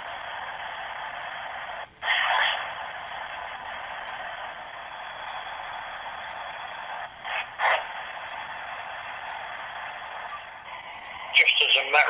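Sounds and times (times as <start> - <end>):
white-noise hiss from phone speaker: 0.0 - 12.0.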